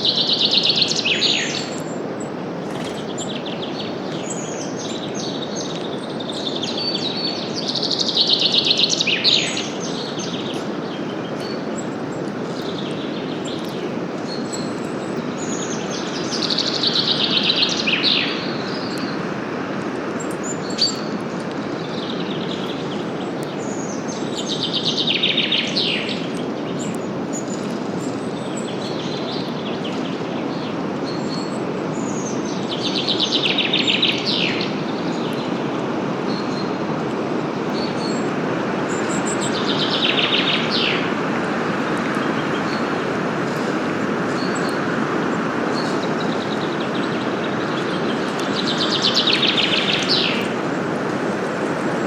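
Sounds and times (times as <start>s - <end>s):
wind through leaves: 0.0s - 52.0s.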